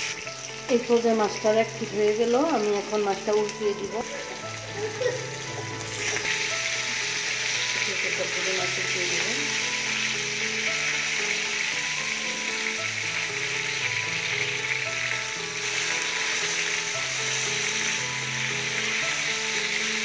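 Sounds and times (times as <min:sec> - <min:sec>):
fish sizzling in hot oil: 0:00.0 - 0:20.0
spatula turning fish: 0:00.0 - 0:20.0.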